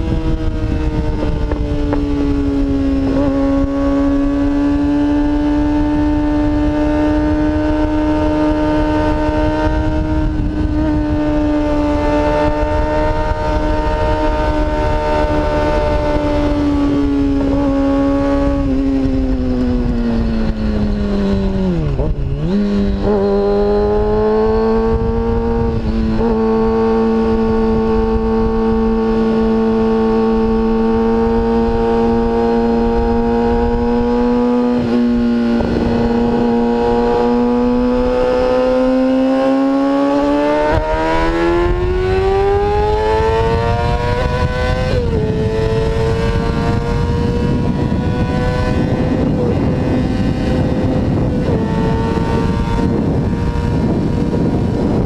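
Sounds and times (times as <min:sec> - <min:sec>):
motorcycle engine at speed: 0:00.0 - 0:55.0
wind rush: 0:00.0 - 0:55.0.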